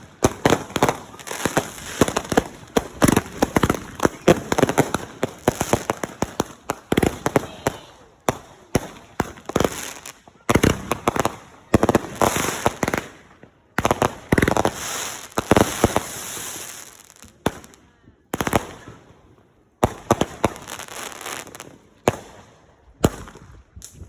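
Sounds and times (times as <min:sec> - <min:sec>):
fireworks crackle: 0:00.0 - 0:17.8, 0:19.8 - 0:24.0
fireworks bangs: 0:00.0 - 0:19.2, 0:19.8 - 0:24.0.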